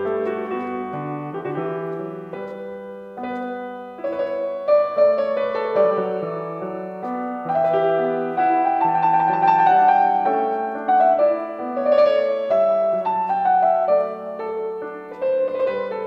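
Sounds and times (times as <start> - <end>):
classical piano piece: 0.0 - 16.0.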